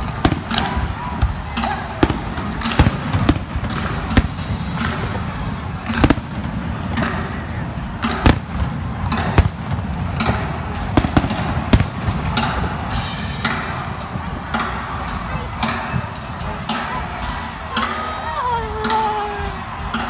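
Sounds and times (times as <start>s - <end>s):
crowd voices humming: 0.0s - 20.0s.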